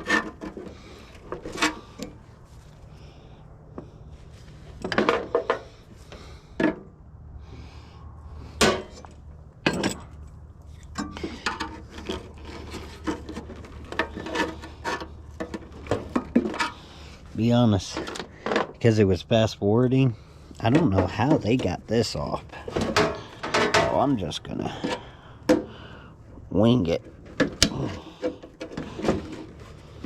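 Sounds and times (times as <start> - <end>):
metal scraping and clanking: 0.0 - 6.9, 7.6 - 19.2, 20.2 - 25.8, 26.6 - 30.0.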